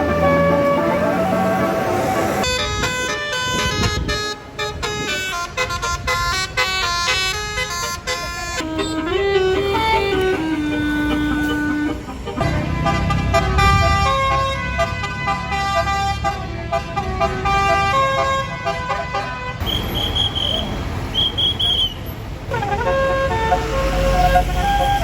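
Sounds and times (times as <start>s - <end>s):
bus engine rumble: 0.0s - 25.0s
bus musical air horn tune: 0.0s - 25.0s.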